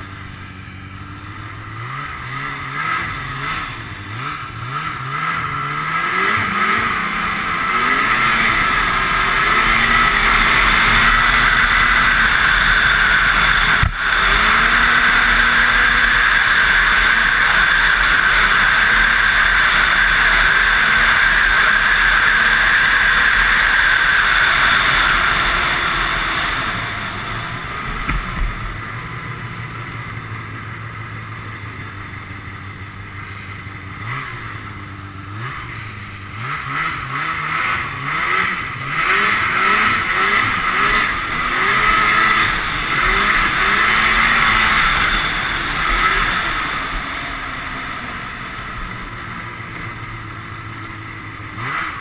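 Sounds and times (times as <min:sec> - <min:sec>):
snowmobile two-stroke engine revving: 0:00.0 - 0:52.0.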